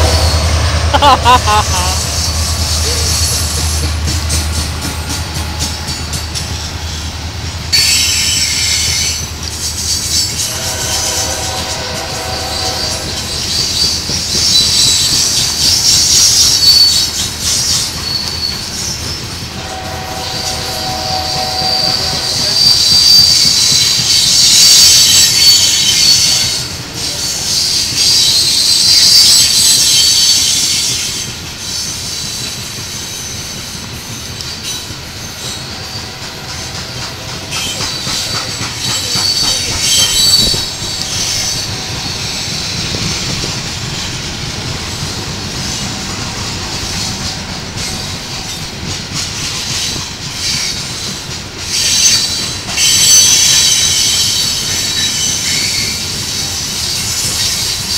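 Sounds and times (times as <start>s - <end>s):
train wheels squealing: 2.1s - 57.9s.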